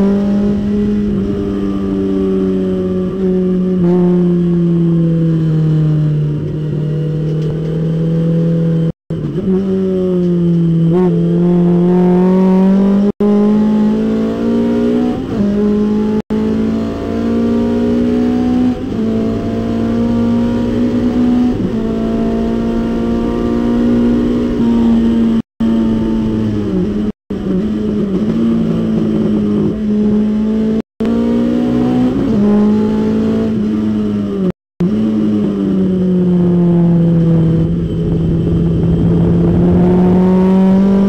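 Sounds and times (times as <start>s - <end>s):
race car engine accelerating: 0.0s - 41.0s.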